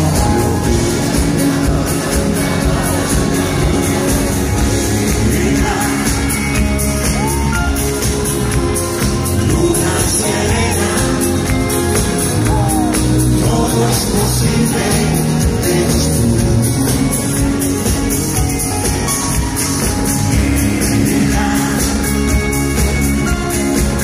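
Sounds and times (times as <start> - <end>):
man singing: 0.0 - 17.8, 20.2 - 22.5
live pop-rock band playing: 0.0 - 24.0.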